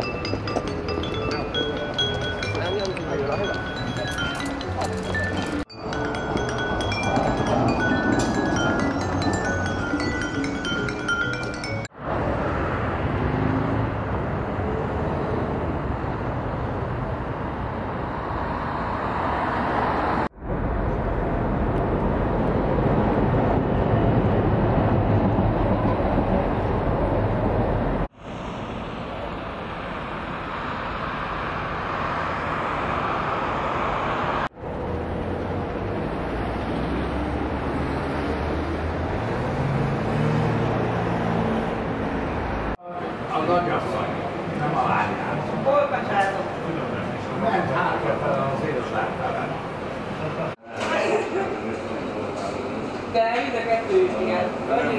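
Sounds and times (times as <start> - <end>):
engine rumble of passing vehicles: 0.0 - 54.9
road traffic noise: 0.0 - 54.9.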